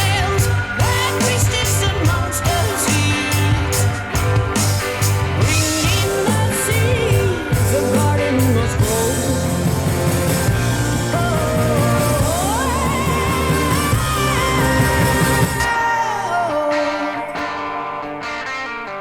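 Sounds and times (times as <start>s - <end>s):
rock song over loudspeaker: 0.0s - 19.0s.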